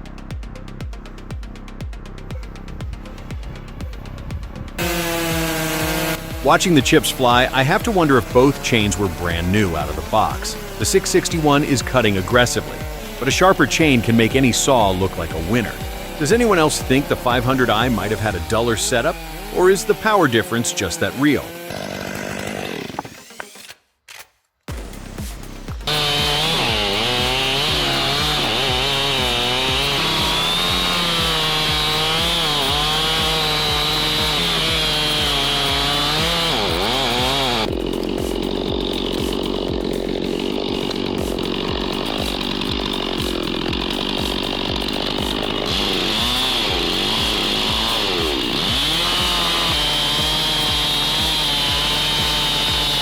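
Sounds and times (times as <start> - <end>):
chainsaws cutting: 2.3 - 53.0.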